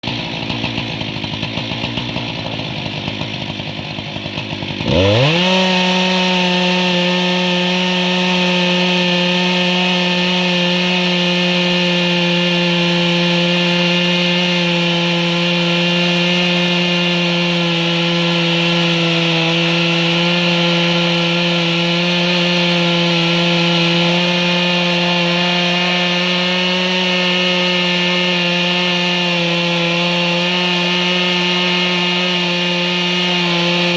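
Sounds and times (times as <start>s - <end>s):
chainsaw engine revving: 0.0s - 33.9s
chainsaw sawing wood: 0.0s - 33.9s.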